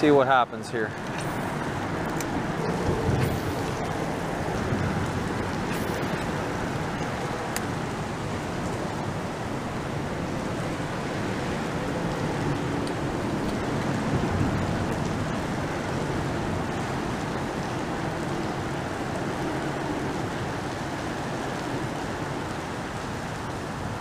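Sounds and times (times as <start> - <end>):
highway traffic noise: 0.0 - 24.0.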